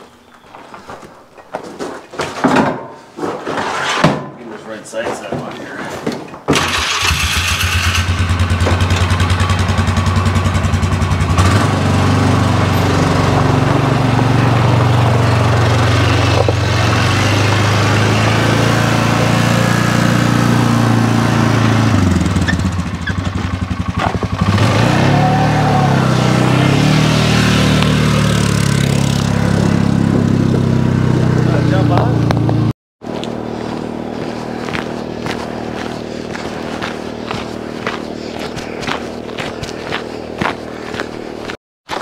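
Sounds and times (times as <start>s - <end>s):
atv engine running: 6.6s - 41.6s.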